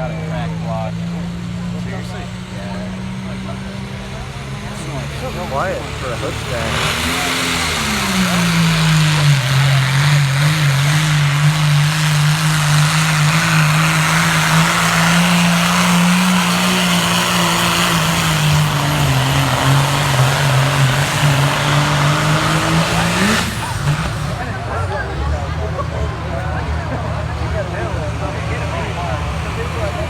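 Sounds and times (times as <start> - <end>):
truck engine at high revs: 0.0 - 30.0.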